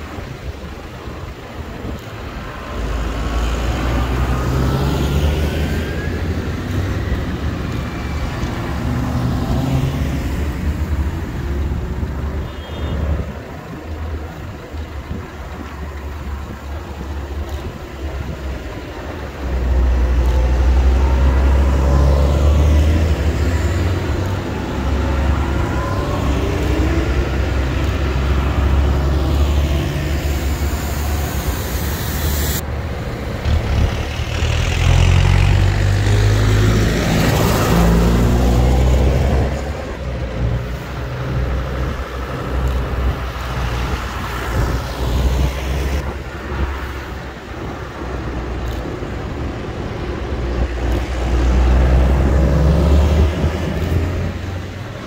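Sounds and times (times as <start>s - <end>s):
tractor diesel engines passing: 0.0s - 55.0s.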